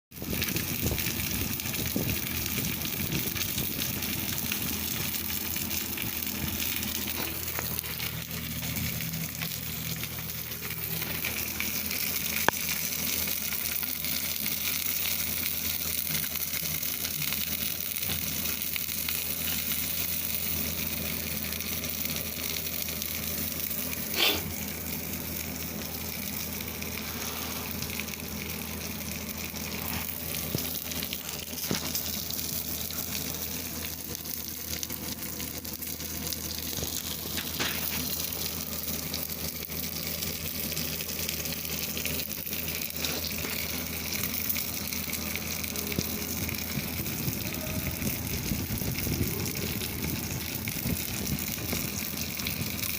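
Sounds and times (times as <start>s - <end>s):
steady hissing sizzle noise: 0.1s - 52.9s
low hum: 0.2s - 52.9s.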